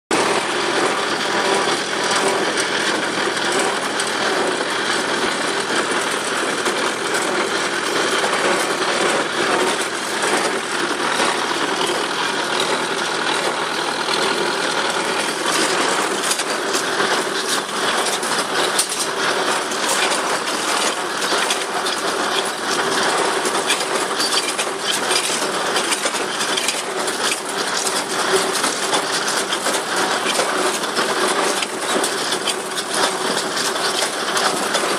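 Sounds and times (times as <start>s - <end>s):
hay baler clattering: 0.1s - 34.9s
sharp clicks and knocks: 0.1s - 34.9s
tractor engine running: 0.1s - 34.9s.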